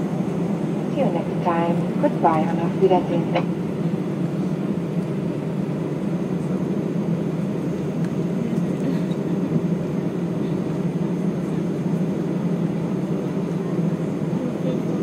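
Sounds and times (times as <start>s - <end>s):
airliner cabin jet engine rumble: 0.0s - 15.0s.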